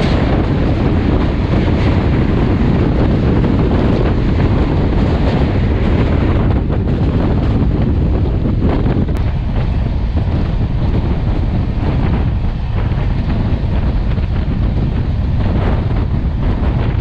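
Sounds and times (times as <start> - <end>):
train rumbling: 0.0 - 17.0
wind buffeting microphone: 0.0 - 17.0.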